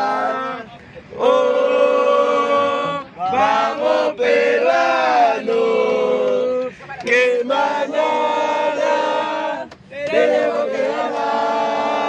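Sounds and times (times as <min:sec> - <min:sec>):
crowd singing a chant: 0:00.0 - 0:12.0.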